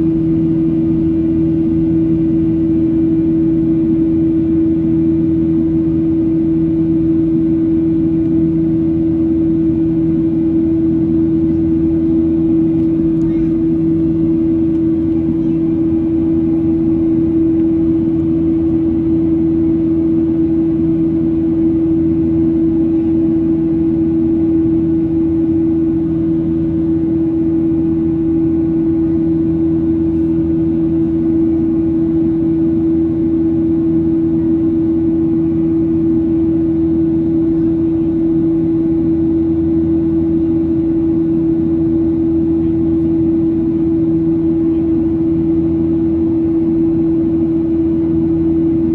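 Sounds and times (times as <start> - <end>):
jet engines droning: 0.0 - 48.9.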